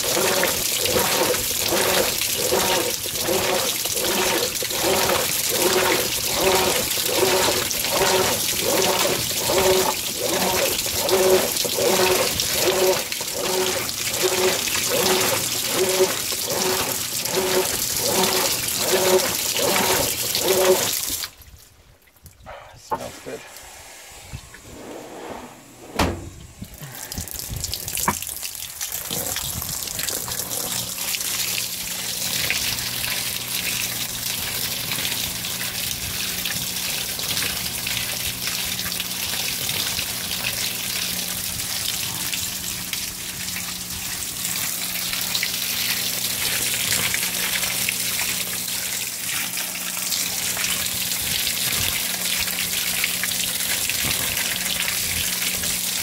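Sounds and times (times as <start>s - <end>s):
water gushing onto clothes: 0.0s - 21.4s, 26.7s - 56.0s
washer low hum: 0.0s - 56.0s.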